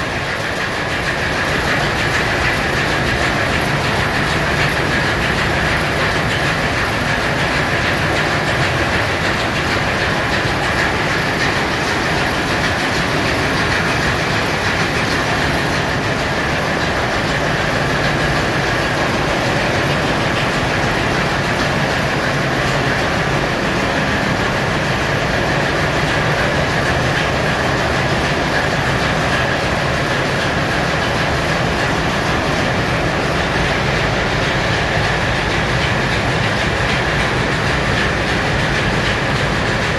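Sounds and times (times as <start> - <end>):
engine room machinery din: 0.0 - 39.9.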